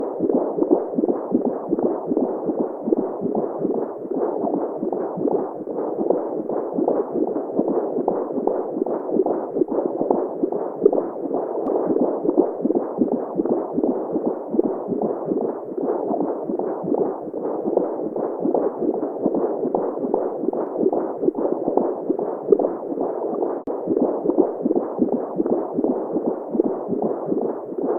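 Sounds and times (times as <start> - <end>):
muffled pulsing whooshing heartbeat: 0.0 - 27.9.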